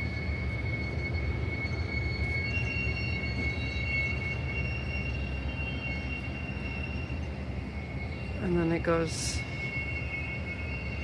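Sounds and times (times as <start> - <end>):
railcar wheels squealing: 0.0 - 11.0
rumble of locomotives: 0.0 - 11.0.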